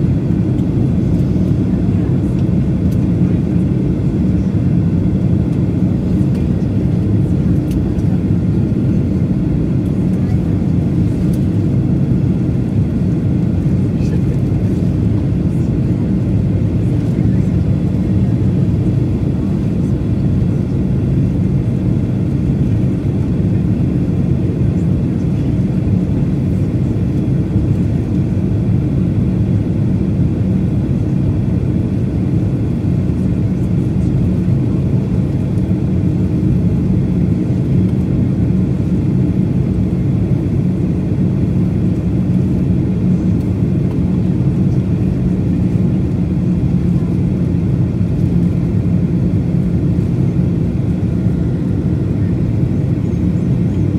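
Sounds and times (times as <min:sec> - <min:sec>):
airliner cabin low rumble: 0:00.0 - 0:53.9.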